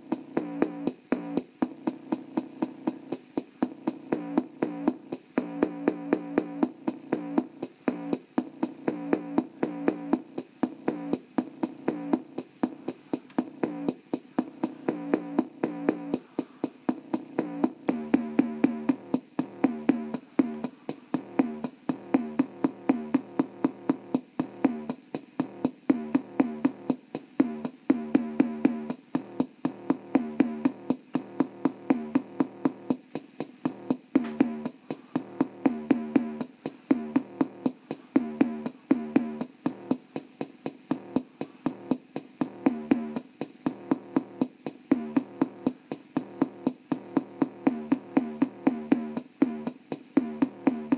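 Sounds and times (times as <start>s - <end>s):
electronic music through small speaker: 0.0s - 50.9s.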